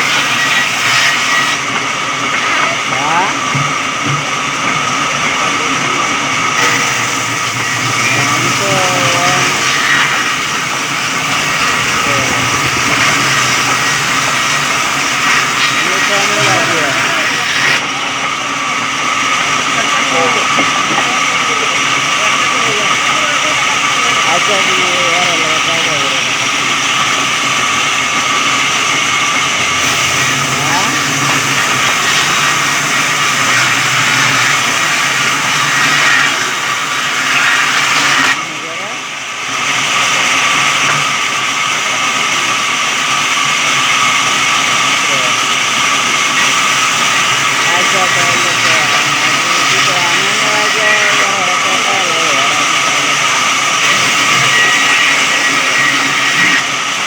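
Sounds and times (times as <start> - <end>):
electric sawmill hiss and whir: 0.0 - 57.0
motor running: 0.0 - 57.0
saw cutting through log: 0.0 - 57.0.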